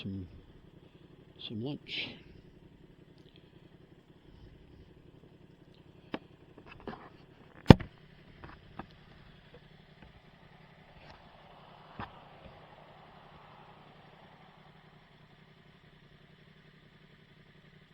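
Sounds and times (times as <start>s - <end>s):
motorcycle idling: 0.0s - 17.9s.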